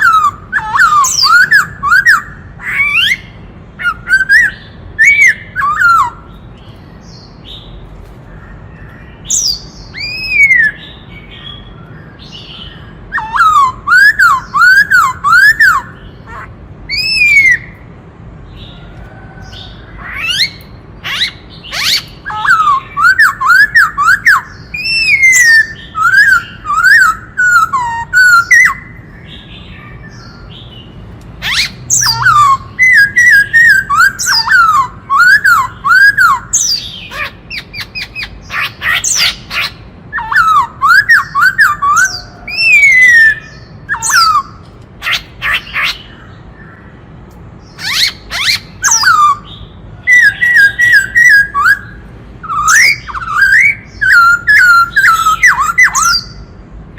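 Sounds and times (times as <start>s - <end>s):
bird singing whistled notes: 0.0s - 16.2s, 16.9s - 17.8s, 19.5s - 46.8s, 47.7s - 56.5s.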